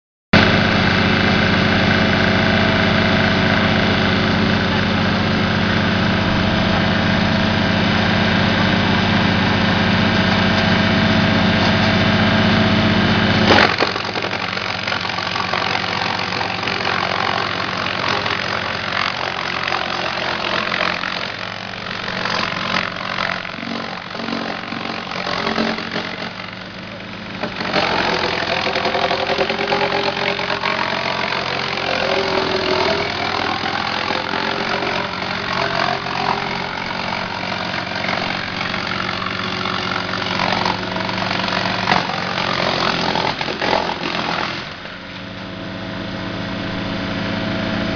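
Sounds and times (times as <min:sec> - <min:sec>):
wood chipper engine running: 0:00.3 - 0:47.9
wood chipper cutting log: 0:00.4 - 0:47.9.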